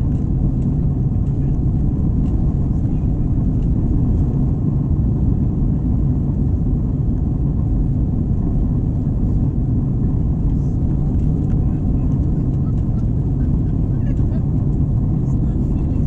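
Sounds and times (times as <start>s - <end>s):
aircraft engines rumbling: 0.0s - 16.0s.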